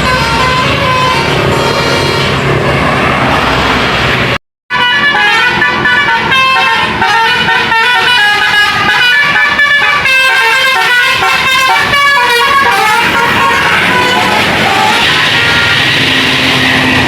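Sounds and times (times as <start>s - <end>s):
multi-tone bus horn melody: 0.0s - 3.4s, 4.2s - 17.0s.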